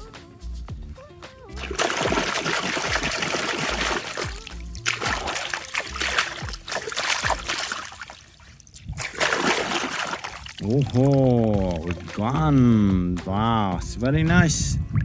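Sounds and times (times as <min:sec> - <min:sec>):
background music with steady beat: 0:00.0 - 0:07.8, 0:10.7 - 0:15.0
water splashing and trickling: 0:00.0 - 0:15.0.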